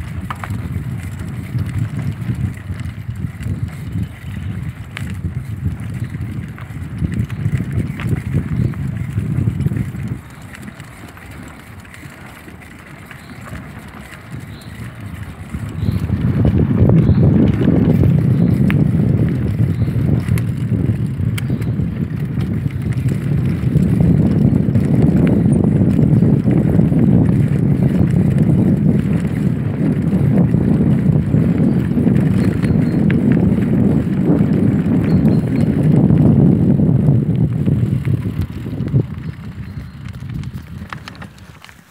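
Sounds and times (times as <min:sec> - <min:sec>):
bike tyres rumbling on dirt: 0:00.0 - 0:41.9
wind on microphone: 0:00.0 - 0:41.9.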